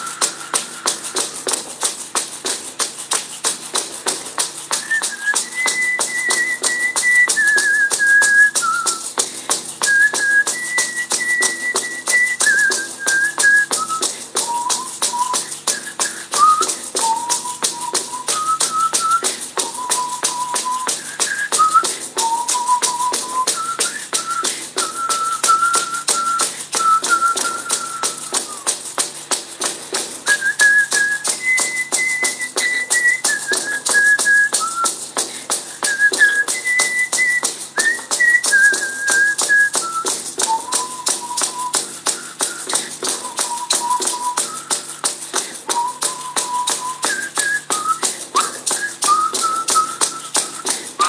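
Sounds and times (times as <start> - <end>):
whistled melody: 0.0 - 1.6, 4.5 - 29.0, 30.2 - 35.0, 35.7 - 51.0.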